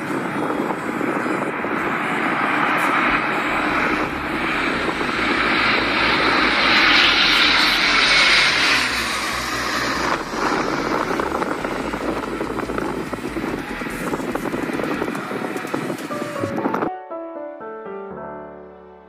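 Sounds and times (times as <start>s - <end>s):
turboprop aircraft droning past: 0.0s - 16.9s.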